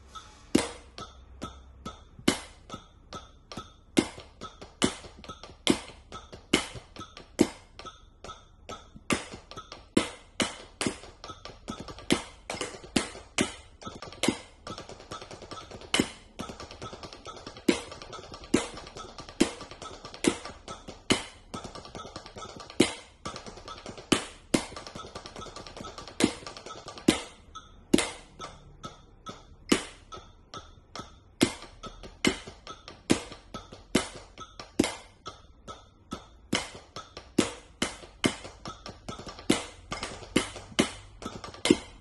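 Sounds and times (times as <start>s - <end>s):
drumsticks tapping practice pads: 0.0s - 42.0s.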